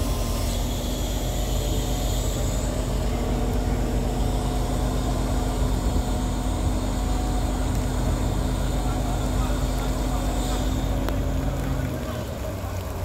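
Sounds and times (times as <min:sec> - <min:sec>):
diesel crane engine droning: 0:00.0 - 0:13.0.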